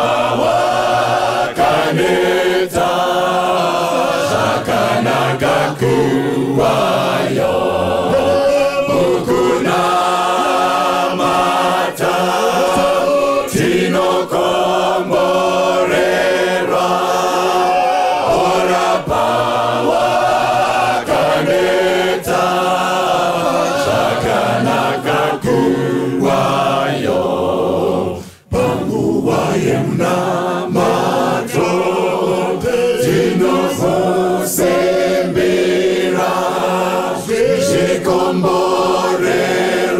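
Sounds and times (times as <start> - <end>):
choir singing gospel: 0.0 - 39.9
lead singers on microphones: 0.0 - 39.9.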